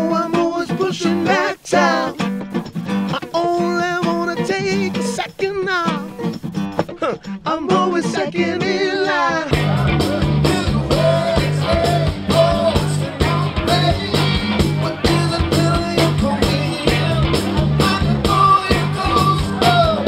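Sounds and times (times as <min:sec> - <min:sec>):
man singing: 0:00.0 - 0:02.2, 0:03.1 - 0:06.2, 0:07.0 - 0:20.0
live rock band playing: 0:01.7 - 0:07.4, 0:09.5 - 0:20.0.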